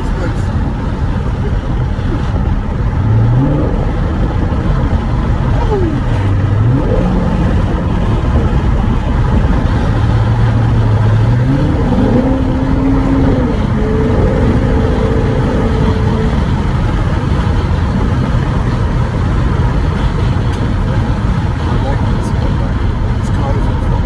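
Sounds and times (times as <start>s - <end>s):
sports car engine revving: 0.0s - 24.0s
wind buffeting microphone: 0.0s - 24.0s.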